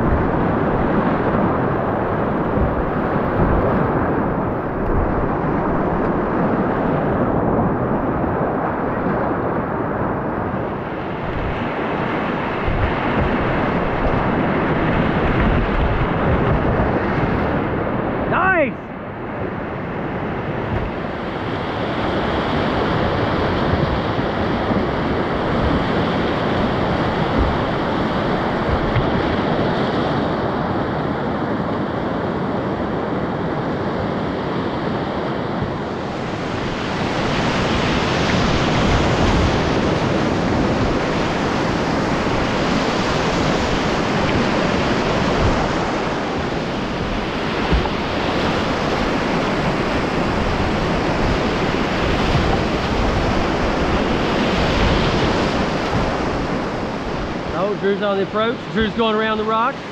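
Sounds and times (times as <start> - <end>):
rushing whitewater: 0.0 - 59.9.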